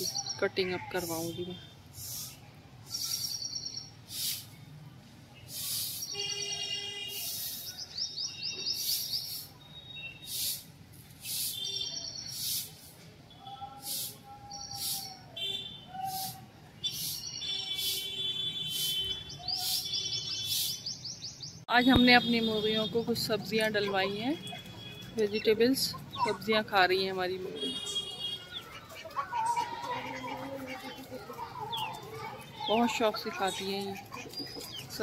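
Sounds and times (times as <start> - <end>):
birds chirping: 0.0 - 12.7, 13.3 - 35.0.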